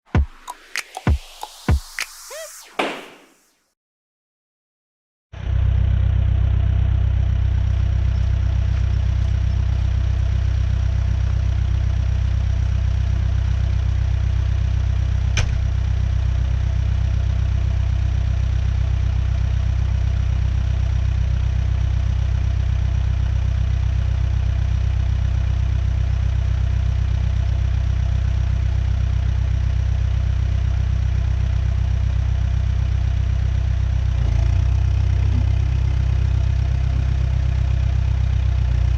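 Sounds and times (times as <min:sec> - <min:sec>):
diesel engine running steadily: 0:05.4 - 0:38.9.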